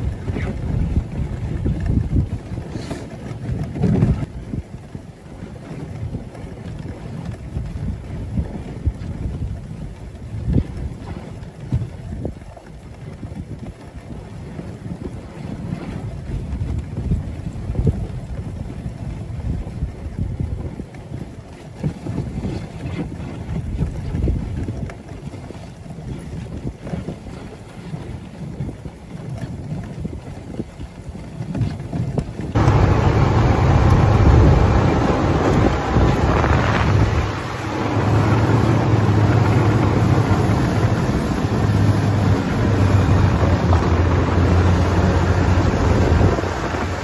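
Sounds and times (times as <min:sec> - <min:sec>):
sled running across snow: 0:00.0 - 0:47.0
wind buffeting microphone: 0:00.0 - 0:47.0.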